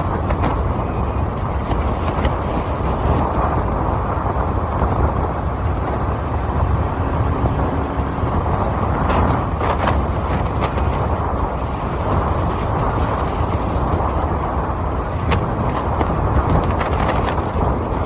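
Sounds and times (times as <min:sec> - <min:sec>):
motorcycle road noise: 0:00.0 - 0:18.0
wind rushing: 0:00.0 - 0:18.0.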